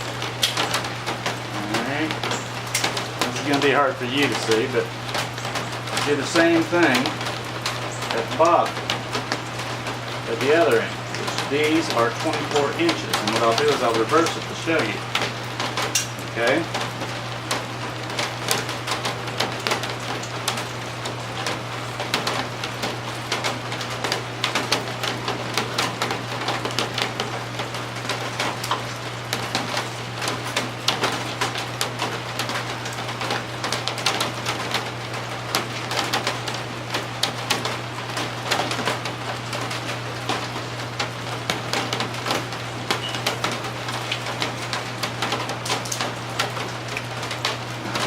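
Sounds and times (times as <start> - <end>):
raindrops ticking on hard surface: 0.0 - 48.0
steady low hum: 0.0 - 48.0.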